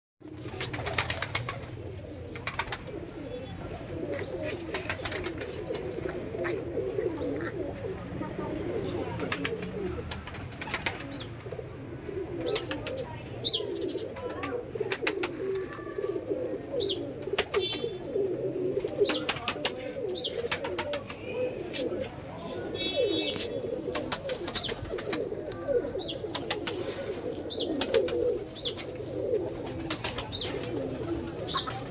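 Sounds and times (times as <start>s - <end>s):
pigeons cooing: 0.2s - 31.9s.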